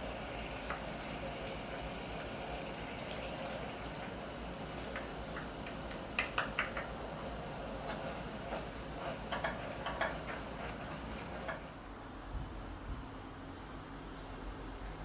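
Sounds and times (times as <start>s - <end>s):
steady hiss: 0.0s - 13.8s.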